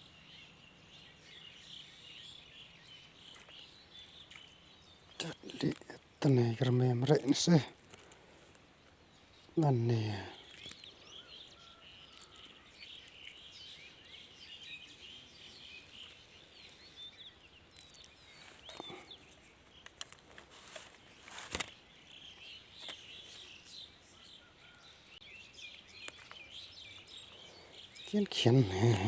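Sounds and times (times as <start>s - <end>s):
birds chirping: 0.0s - 29.0s
faint outdoor background: 0.0s - 29.0s.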